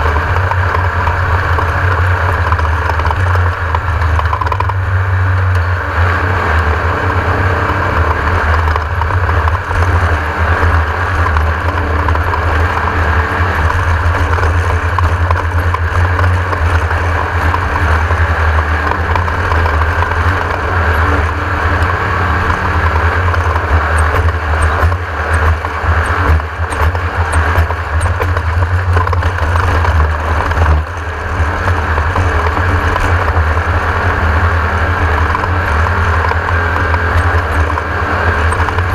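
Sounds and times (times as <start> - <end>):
race car engine droning: 0.0 - 38.9
wind and dirt noise: 0.0 - 38.9.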